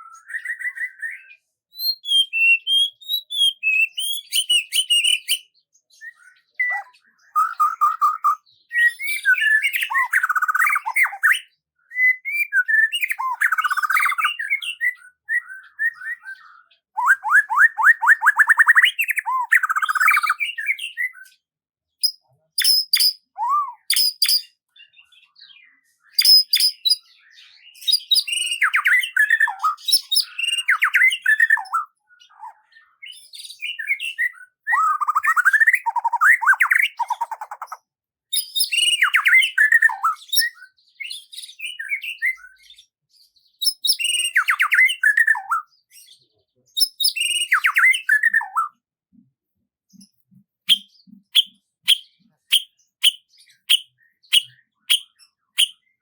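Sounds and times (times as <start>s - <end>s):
songbird singing: 0.0s - 42.9s, 43.6s - 49.3s, 49.9s - 56.0s.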